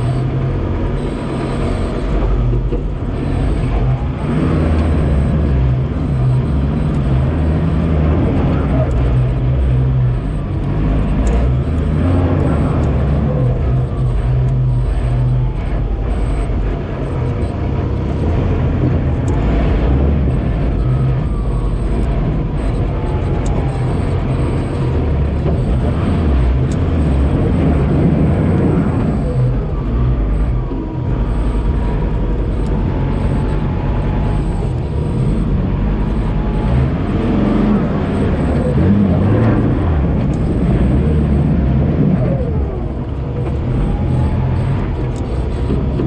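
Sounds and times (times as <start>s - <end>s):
off-road vehicle engine under load: 0.0s - 46.0s.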